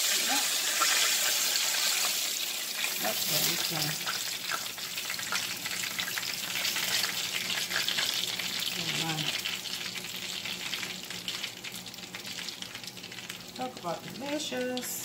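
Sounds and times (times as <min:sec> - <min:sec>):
oil sizzling in frying pan: 0:00.0 - 0:15.0.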